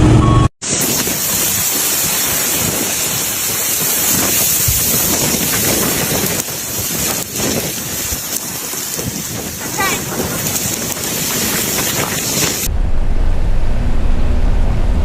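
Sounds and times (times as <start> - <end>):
wind blowing on microphone: 0.7 - 15.0.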